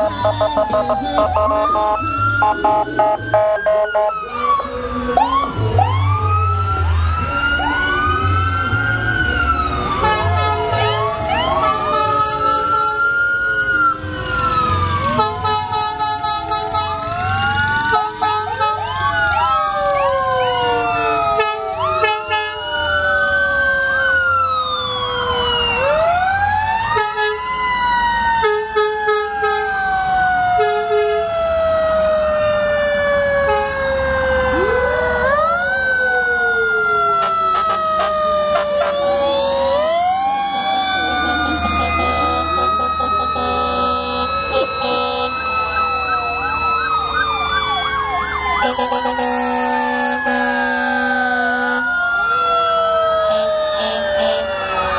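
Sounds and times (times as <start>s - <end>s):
emergency sirens wailing: 0.0s - 54.9s.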